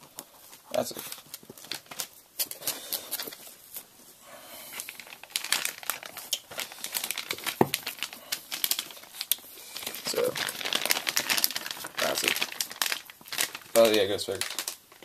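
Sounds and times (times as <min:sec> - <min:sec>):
metallic bag crinkling: 0:00.1 - 0:04.0, 0:04.7 - 0:15.0.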